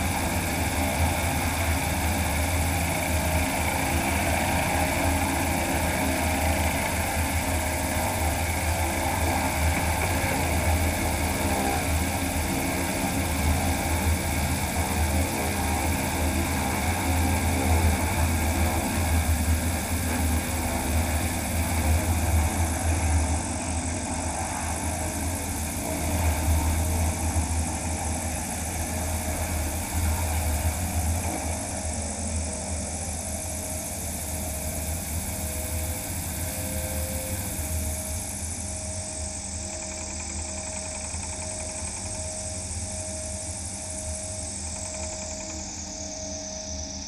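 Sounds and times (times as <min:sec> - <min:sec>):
low wind rumble: 0:00.0 - 0:39.6
electric propeller running: 0:00.0 - 0:47.0.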